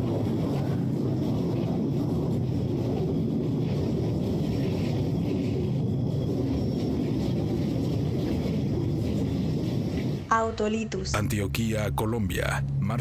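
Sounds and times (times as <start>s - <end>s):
low rumbling drone: 0.0s - 13.0s.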